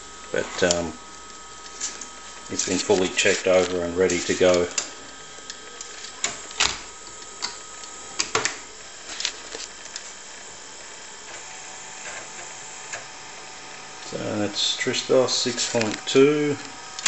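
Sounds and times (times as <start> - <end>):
floppy drive clicks and clunks: 0.0 - 17.0
steady hum: 0.0 - 17.0.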